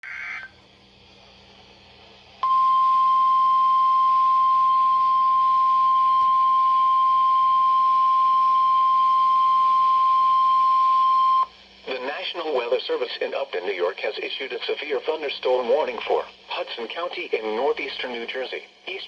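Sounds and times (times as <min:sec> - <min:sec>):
faint radio hiss: 0:00.0 - 0:19.0.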